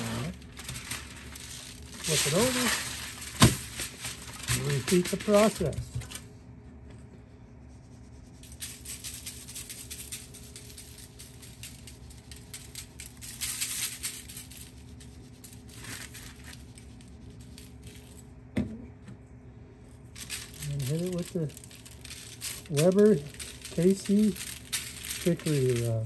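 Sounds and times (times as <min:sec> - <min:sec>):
granules rustling from shaker: 0:00.0 - 0:06.2, 0:07.5 - 0:18.3, 0:19.8 - 0:26.0.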